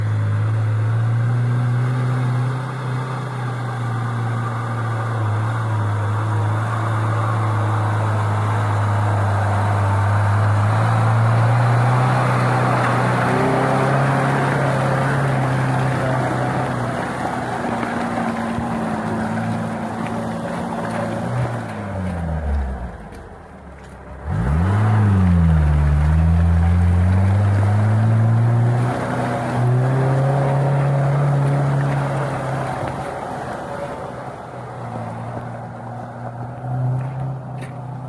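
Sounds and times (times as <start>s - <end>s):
car engine humming: 0.0s - 38.0s
road noise: 0.0s - 38.0s.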